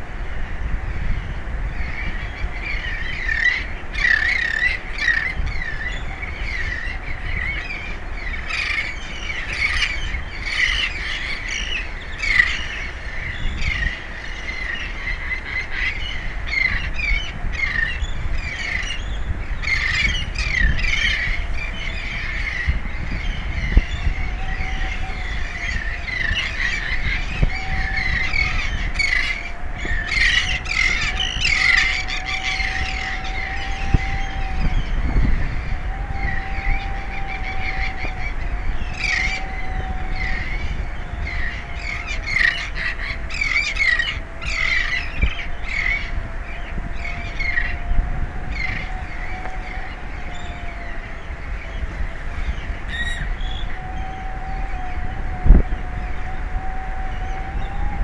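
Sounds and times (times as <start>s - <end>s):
birds squawking and chirping: 0.4s - 58.0s.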